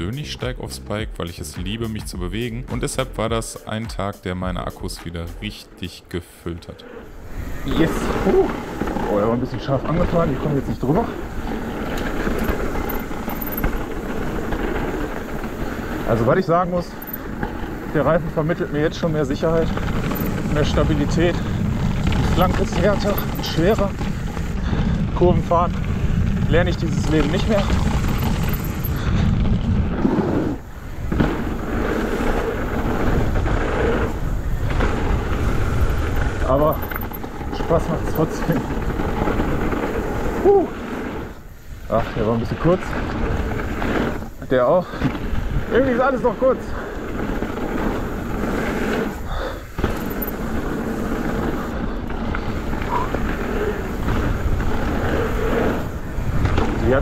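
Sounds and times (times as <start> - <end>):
mountain bike trail noise: 0.0 - 57.0
wind rushing over microphone: 6.8 - 57.0.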